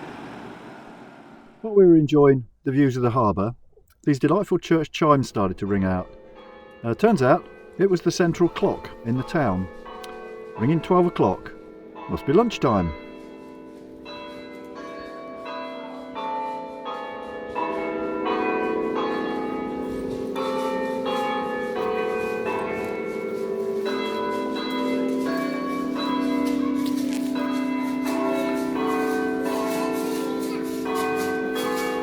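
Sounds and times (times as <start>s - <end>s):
church bells chiming: 4.3s - 32.0s.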